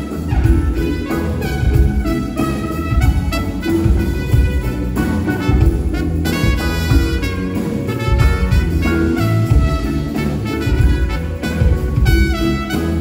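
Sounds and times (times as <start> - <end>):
heavy pulsing bass line: 0.0 - 13.0
live jazz band playing: 0.0 - 13.0.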